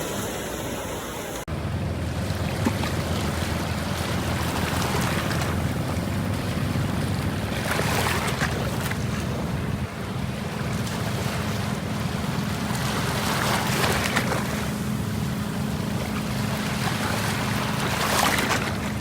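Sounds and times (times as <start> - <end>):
sea water washing in swells: 0.0 - 19.0
steady low rumble: 0.7 - 19.0.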